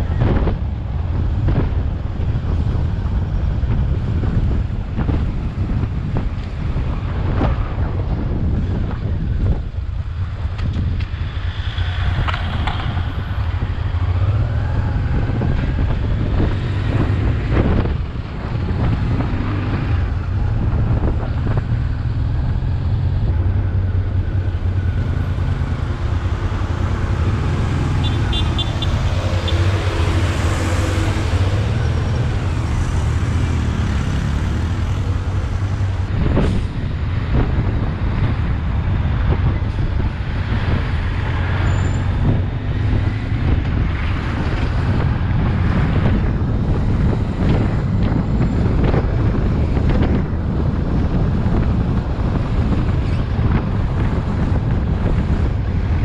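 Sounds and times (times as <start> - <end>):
road traffic: 0.0 - 56.0
wind on microphone: 0.0 - 56.0.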